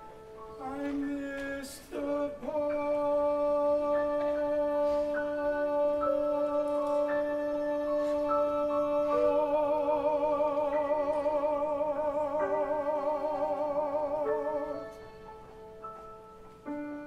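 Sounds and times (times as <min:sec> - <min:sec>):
held notes and chords: 0:00.0 - 0:17.0.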